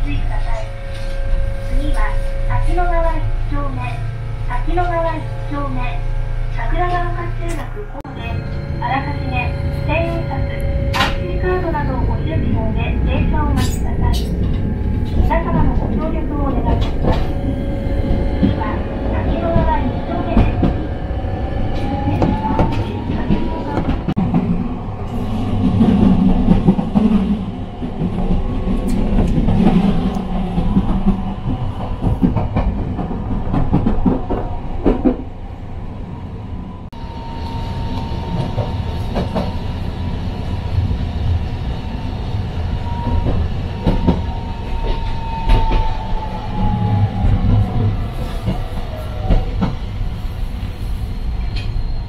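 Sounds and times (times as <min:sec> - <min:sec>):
tram motor whine: 0:00.0 - 0:52.0
tram rumble: 0:00.0 - 0:52.0.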